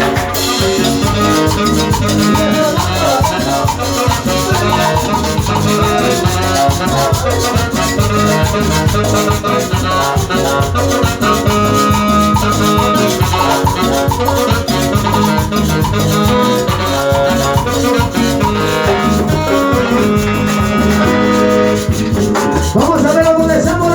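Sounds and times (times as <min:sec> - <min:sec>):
bass line: 0:00.0 - 0:23.9
latin dance music: 0:00.0 - 0:23.9
maracas: 0:00.0 - 0:23.9
plucked guitar melody: 0:00.0 - 0:23.9.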